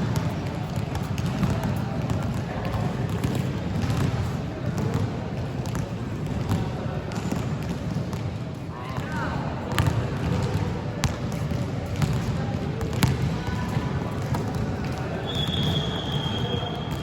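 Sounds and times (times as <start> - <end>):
basketballs bouncing on a court: 0.0 - 17.0.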